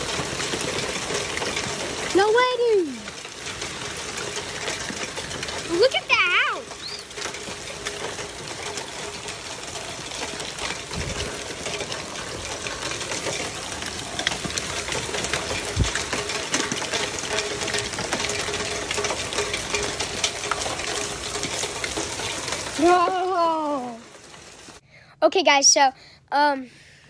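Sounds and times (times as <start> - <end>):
hail and rain clattering: 0.0 - 25.9.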